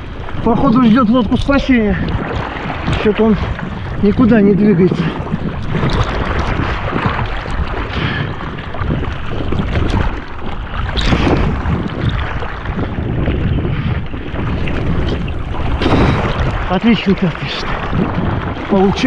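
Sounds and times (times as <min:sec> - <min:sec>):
sharp splashes: 0:00.0 - 0:19.0
water rushing and slapping: 0:00.0 - 0:19.0
wind buffeting microphone: 0:00.0 - 0:19.0.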